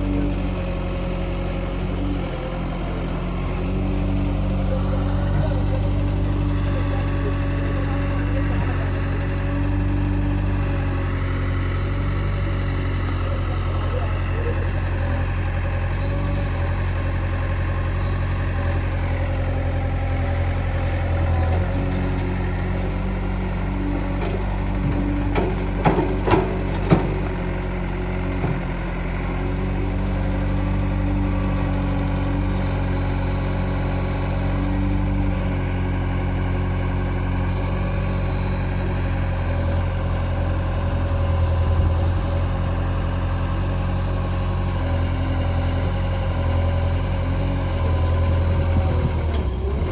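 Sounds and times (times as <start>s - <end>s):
diesel engines of heavy machinery: 0.0s - 49.9s.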